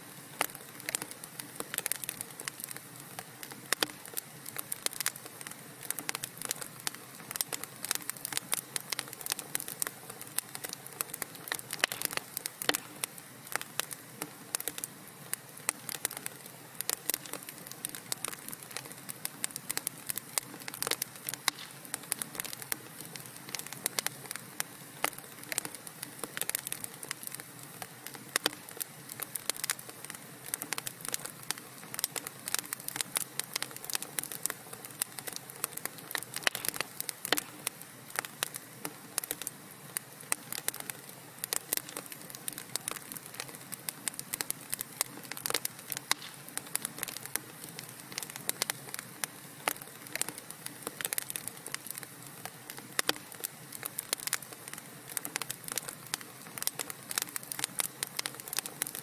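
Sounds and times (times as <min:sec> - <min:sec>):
hiss of burning: 0:00.0 - 0:59.0
wood fire crackling and popping: 0:00.1 - 0:59.0.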